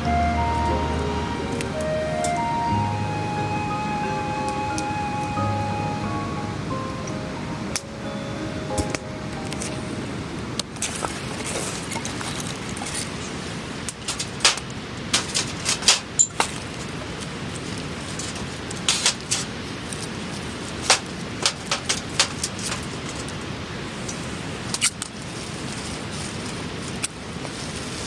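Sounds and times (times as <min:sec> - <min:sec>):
low background noise: 0:00.0 - 0:28.0.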